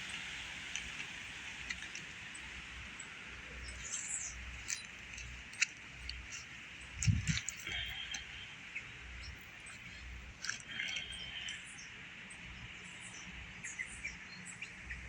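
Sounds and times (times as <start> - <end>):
small ticks and chirps: 0.1 - 14.7.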